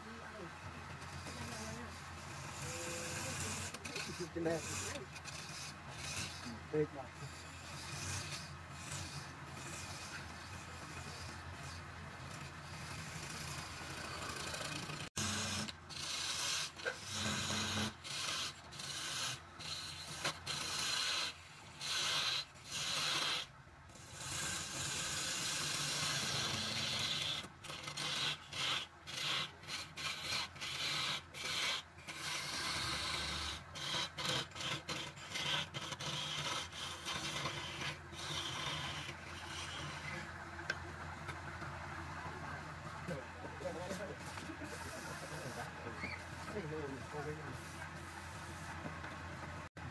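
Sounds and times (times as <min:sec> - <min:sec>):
chisel scraping spinning wood: 0:00.0 - 0:49.9.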